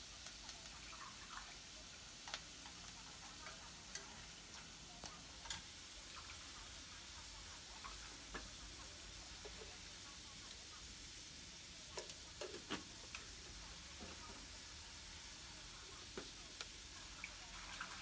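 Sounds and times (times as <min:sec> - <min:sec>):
sharp ticks of frying: 0:00.0 - 0:18.0
shrimp sizzling in a wok: 0:00.0 - 0:18.0.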